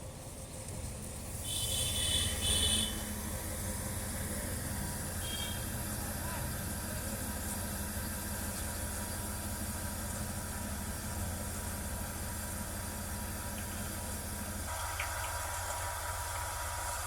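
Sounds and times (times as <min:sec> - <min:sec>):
heavy machinery engine humming: 0:00.0 - 0:17.0.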